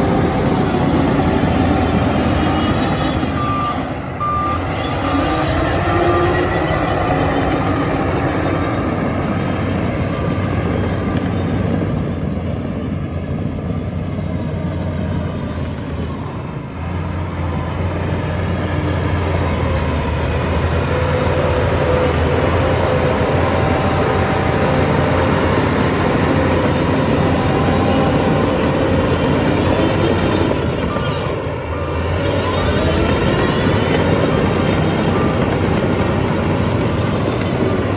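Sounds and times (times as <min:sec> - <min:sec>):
bulldozer diesel engine droning: 0:00.0 - 0:37.9.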